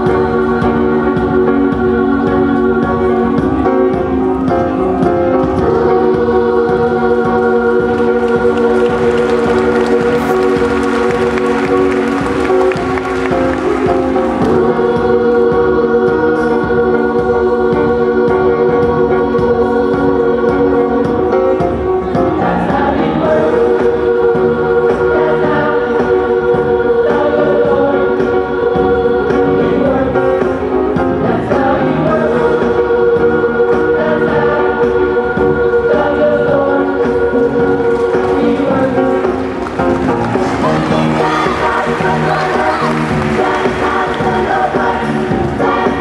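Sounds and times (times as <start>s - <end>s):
choir singing over a beat: 0.0s - 46.0s.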